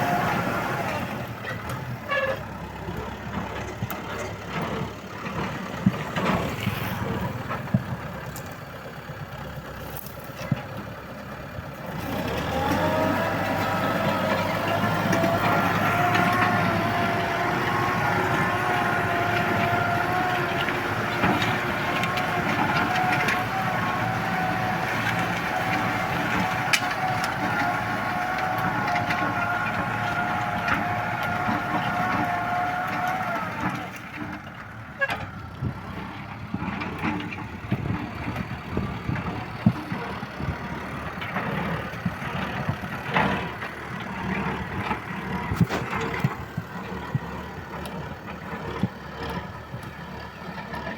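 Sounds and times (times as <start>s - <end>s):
tractor diesel engine whining: 0.0s - 50.9s
engine knocking: 1.0s - 50.9s.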